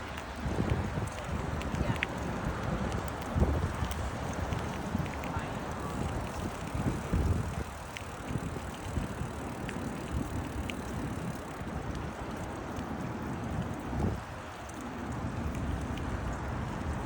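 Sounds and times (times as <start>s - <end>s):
road noise rumbling: 0.0s - 17.0s
wind buffeting microphone: 0.0s - 17.0s
faint ticks: 0.1s - 16.4s.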